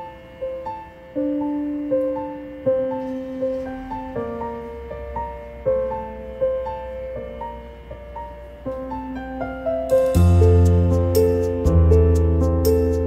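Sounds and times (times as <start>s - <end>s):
slow piano-like keyboard melody: 0.0s - 13.0s.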